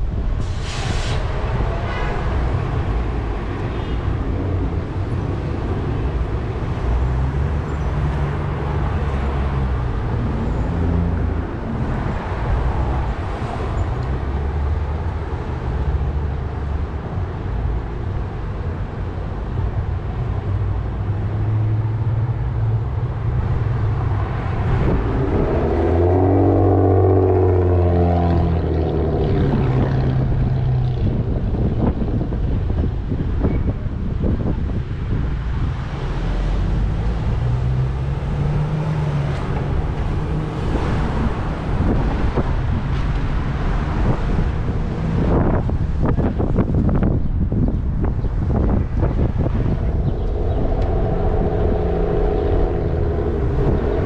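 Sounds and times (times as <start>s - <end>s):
cars passing: 0.0s - 54.0s
vehicle engine hum passing close: 0.0s - 54.0s
wind rumble on microphone: 0.0s - 54.0s.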